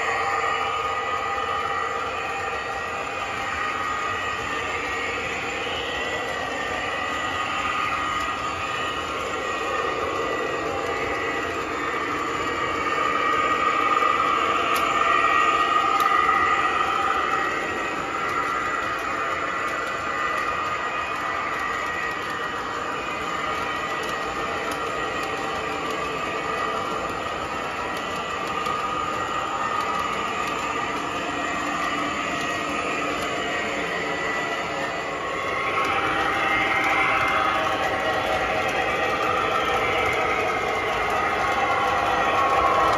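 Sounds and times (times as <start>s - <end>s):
model train rolling and motor hum: 0.0s - 42.9s.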